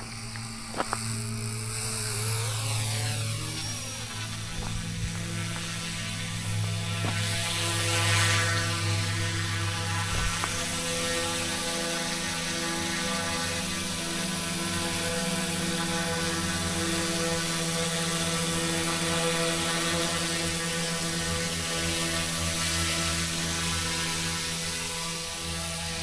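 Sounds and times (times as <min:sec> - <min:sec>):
rc helicopter rotor whine: 0:00.0 - 0:26.0.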